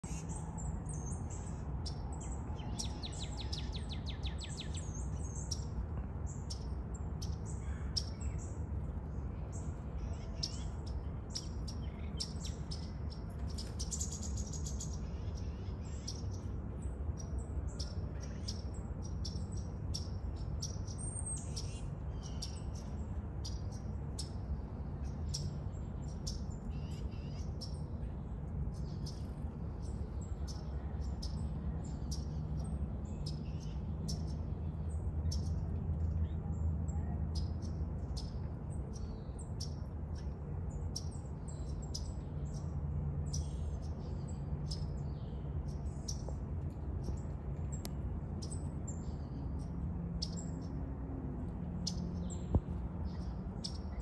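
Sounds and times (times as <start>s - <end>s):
songbirds chirping: 0.0s - 54.0s
steady low hum: 0.0s - 54.0s.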